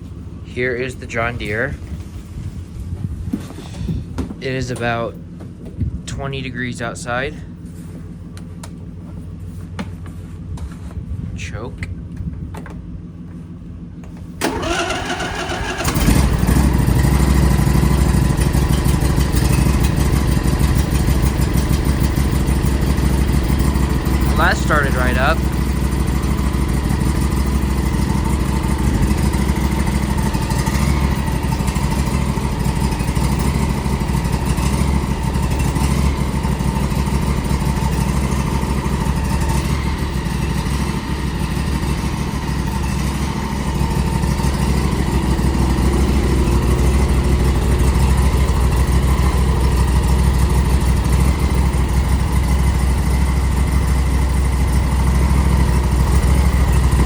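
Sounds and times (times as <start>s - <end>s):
lawnmower engine idling: 0.0s - 57.0s.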